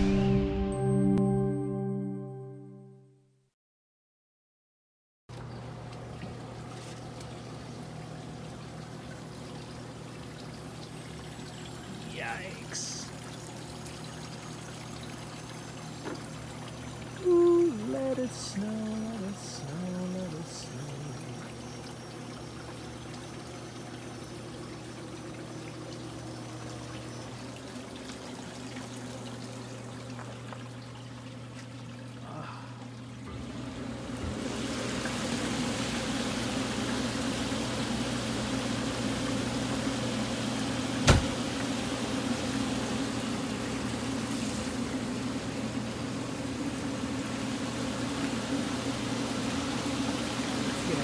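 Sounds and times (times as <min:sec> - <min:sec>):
hot tub pump humming: 0:05.3 - 0:51.0
water trickling and churning: 0:05.3 - 0:51.0.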